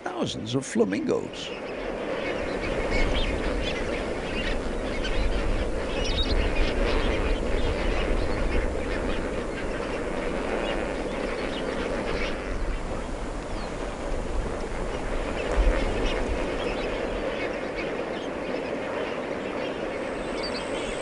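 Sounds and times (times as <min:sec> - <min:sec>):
flamingos honking: 0:00.1 - 0:21.0.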